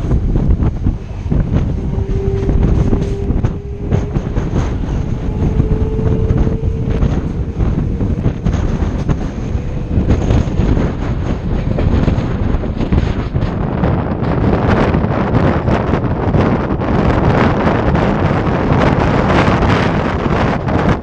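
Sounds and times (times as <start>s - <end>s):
train wheels rumbling on rails: 0.0s - 21.0s
wind buffeting microphone: 0.0s - 21.0s.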